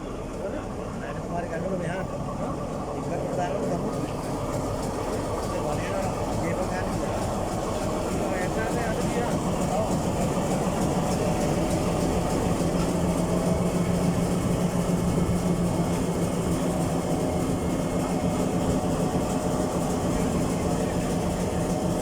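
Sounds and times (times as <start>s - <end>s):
diesel locomotive engine idling: 0.0s - 22.0s.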